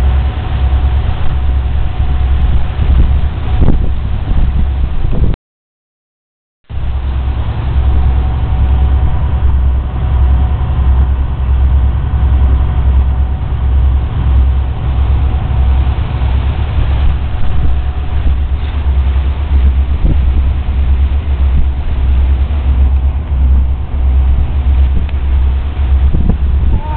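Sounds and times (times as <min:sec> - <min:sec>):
boat engine droning: 0:00.0 - 0:05.4, 0:06.7 - 0:26.9.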